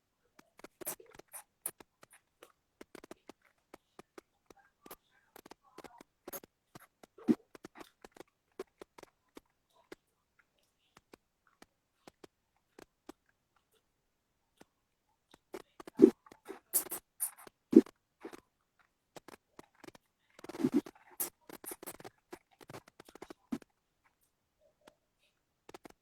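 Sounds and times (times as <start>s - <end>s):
scratching and tapping contact sounds: 0.3s - 13.9s, 14.6s - 26.0s.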